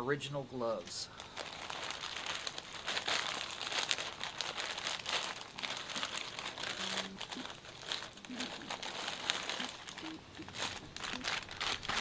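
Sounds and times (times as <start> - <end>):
packaging crinkling: 1.2 - 12.0.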